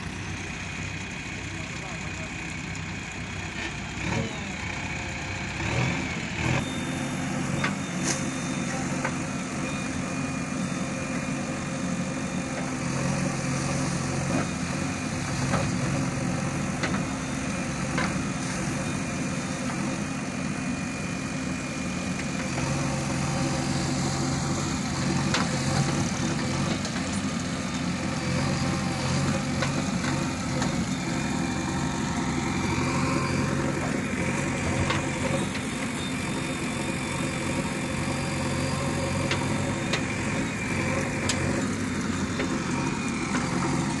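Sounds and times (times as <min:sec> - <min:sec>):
diesel engines running: 0:00.0 - 0:44.0.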